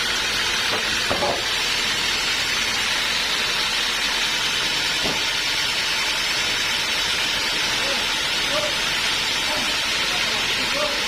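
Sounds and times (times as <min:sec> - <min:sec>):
band sawmill whirring: 0:00.0 - 0:11.0.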